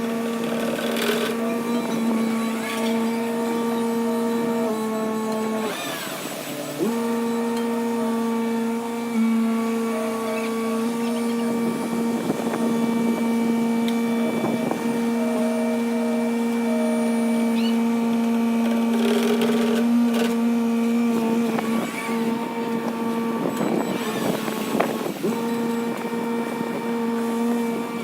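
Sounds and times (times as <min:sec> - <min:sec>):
excavator engine and hydraulics hum: 0:00.0 - 0:28.0.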